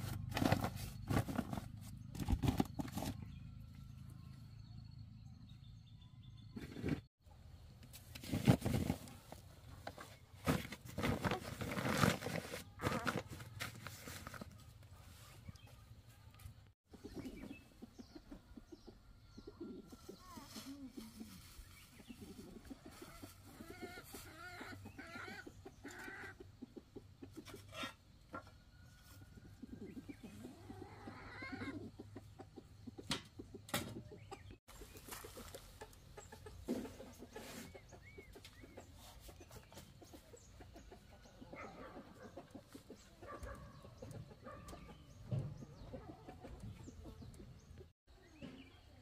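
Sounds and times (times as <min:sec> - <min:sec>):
chickens clucking: 0:08.4 - 0:49.0.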